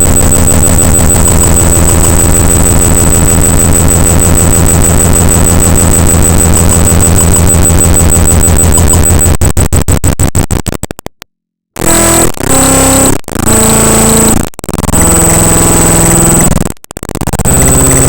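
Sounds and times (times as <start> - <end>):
high whine: 0.0 - 9.5, 11.8 - 18.0
harsh digital buzz: 0.0 - 10.7, 11.8 - 18.0.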